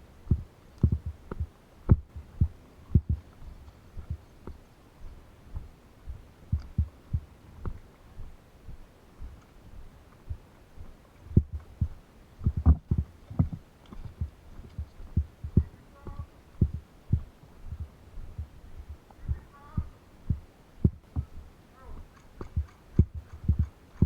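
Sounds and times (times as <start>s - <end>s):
muffled footsteps and knocks: 0.3s - 24.0s.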